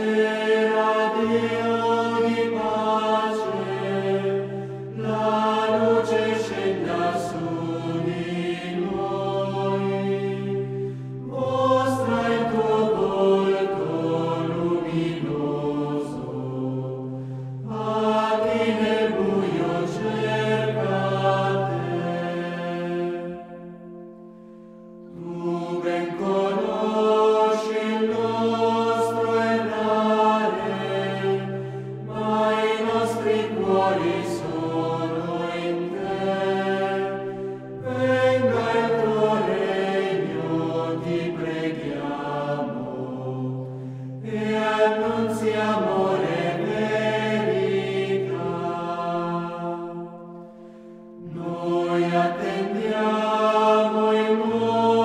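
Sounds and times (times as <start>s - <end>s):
choir chanting slowly: 0.0s - 55.0s.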